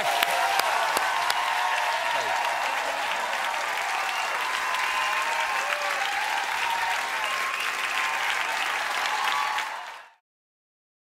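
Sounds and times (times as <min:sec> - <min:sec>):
voices whooping: 0:00.0 - 0:10.0
audience applauding and cheering: 0:00.0 - 0:10.2.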